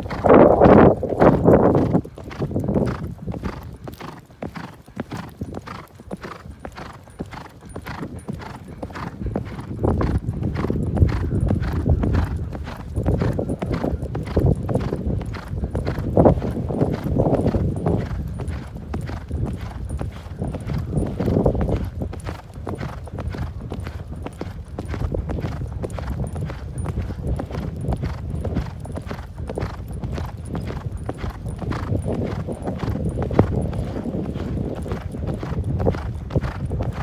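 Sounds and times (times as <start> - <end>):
horse hooves clip-clopping: 0.0 - 37.0.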